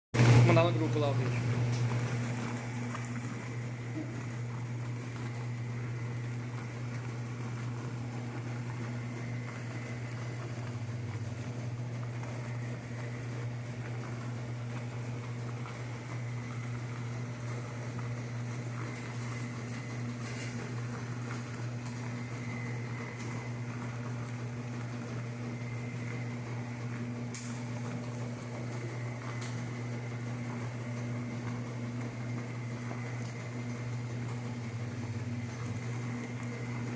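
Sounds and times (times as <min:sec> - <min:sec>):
washing machine motor hum: 0:00.2 - 0:36.9.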